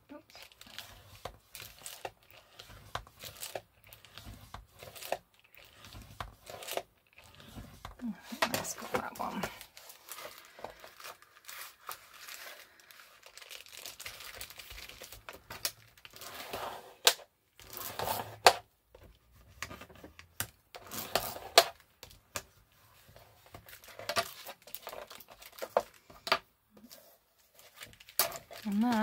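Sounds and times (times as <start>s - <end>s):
paper rustling and crinkling: 0.3s - 29.0s.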